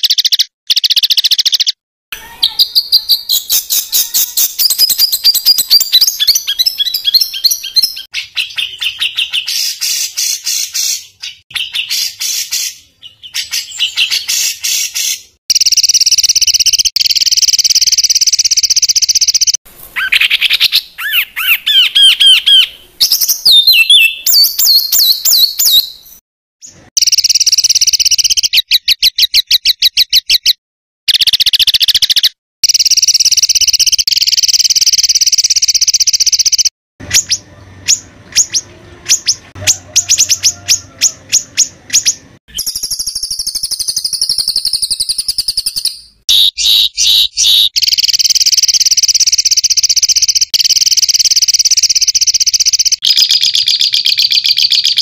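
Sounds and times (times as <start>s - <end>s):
songbird singing fast trills: 0.0s - 26.2s, 27.0s - 55.0s.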